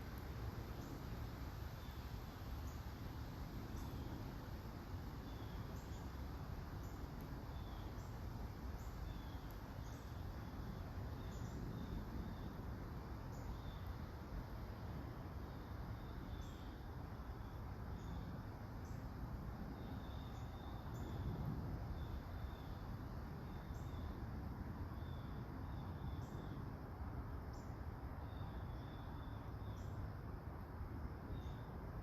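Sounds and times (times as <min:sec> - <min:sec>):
light rain pattering: 0:00.0 - 0:28.2.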